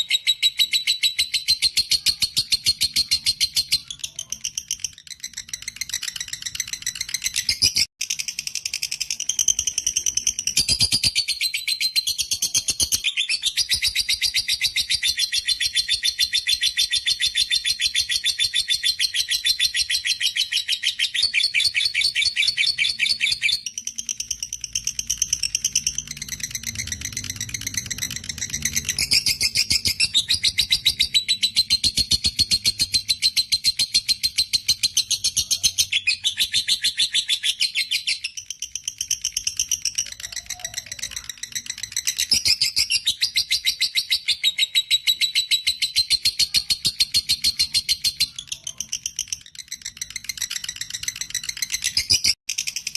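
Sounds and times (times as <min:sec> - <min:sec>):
lovebird chattering: 0:00.0 - 0:52.9.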